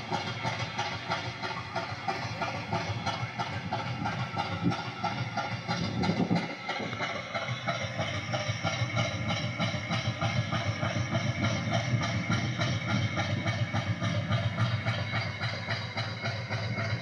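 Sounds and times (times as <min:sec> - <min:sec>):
diesel engine knocking: 0:00.0 - 0:17.0.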